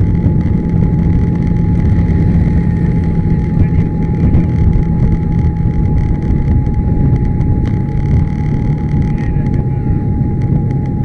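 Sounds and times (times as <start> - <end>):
scooter engine and wind rumble: 0.0 - 11.0.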